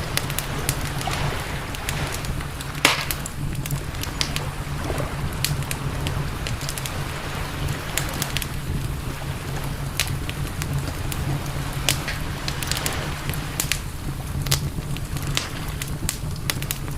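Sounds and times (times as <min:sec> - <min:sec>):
campfire crackling and popping: 0:00.0 - 0:16.9
low rumble: 0:00.0 - 0:16.9.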